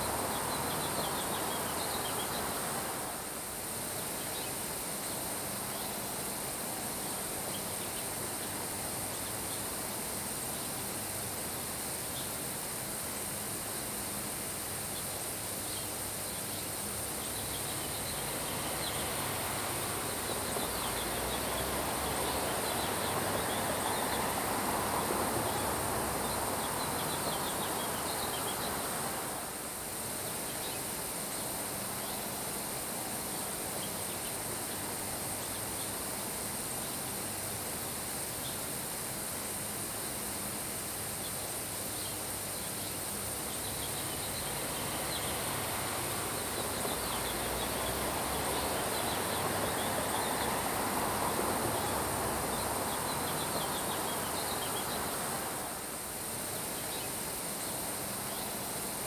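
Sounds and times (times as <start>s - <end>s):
rain falling on grass: 0.0s - 12.7s, 16.1s - 33.7s, 40.7s - 58.8s.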